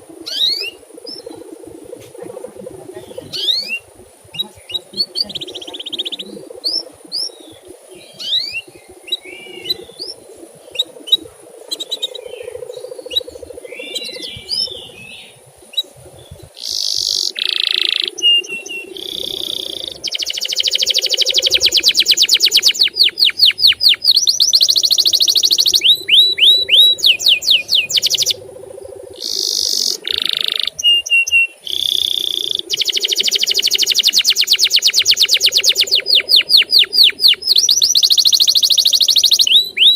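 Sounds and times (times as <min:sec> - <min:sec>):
canary singing: 0:00.0 - 0:01.4, 0:02.2 - 0:28.4, 0:29.1 - 0:39.9.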